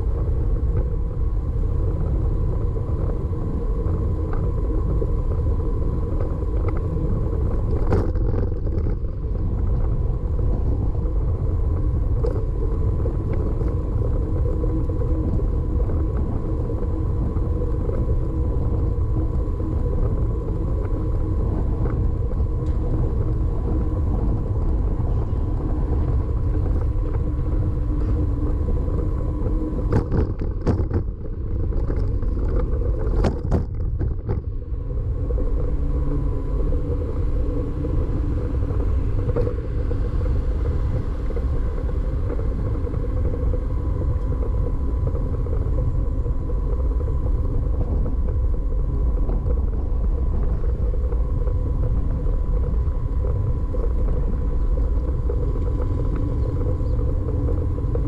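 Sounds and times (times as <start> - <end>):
road rumble: 0.0 - 58.0
wind on microphone: 0.0 - 58.0.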